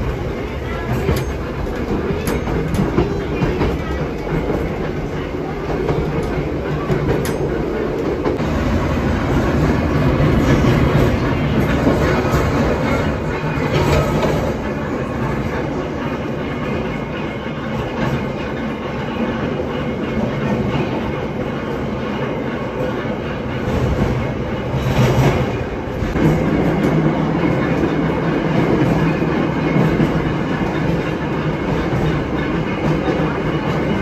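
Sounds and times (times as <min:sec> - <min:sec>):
steel wheels rumbling: 0:00.0 - 0:34.0.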